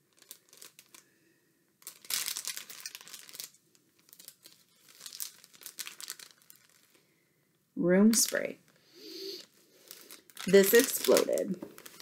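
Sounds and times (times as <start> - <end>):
plastic bag crinkling: 0.0 - 1.2, 1.8 - 7.0, 8.1 - 12.0.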